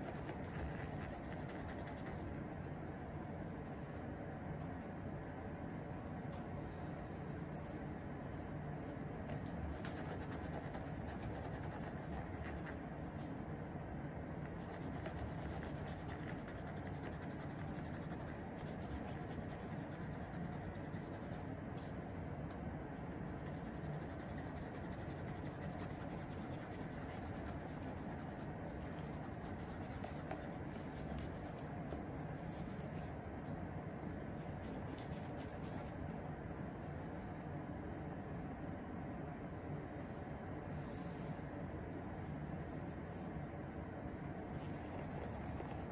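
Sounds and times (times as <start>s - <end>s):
low room hum: 0.0s - 45.9s.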